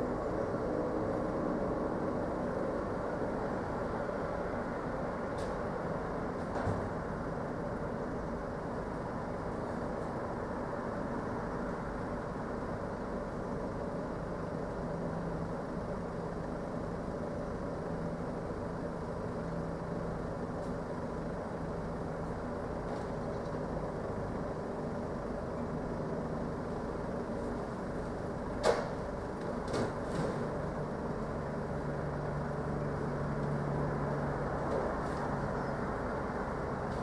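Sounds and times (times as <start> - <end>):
steady mechanical drone: 0.0 - 37.0.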